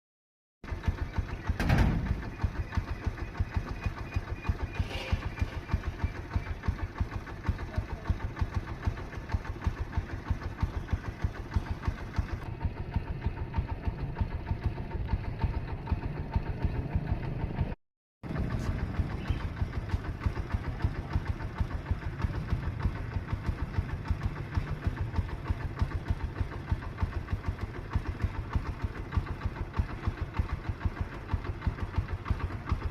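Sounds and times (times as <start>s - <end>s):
engine knocking: 0.6s - 32.9s.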